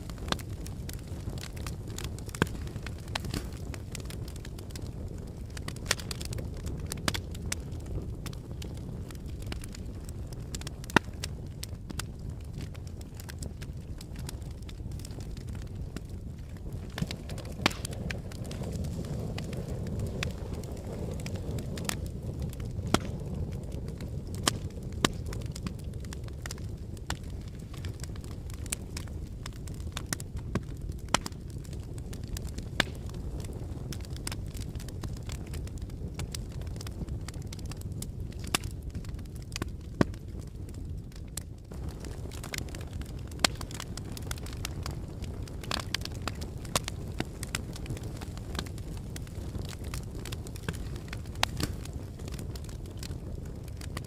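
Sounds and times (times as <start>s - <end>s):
lava flow rumble: 0.0s - 54.0s
sharp cracks and crackling: 0.0s - 54.0s.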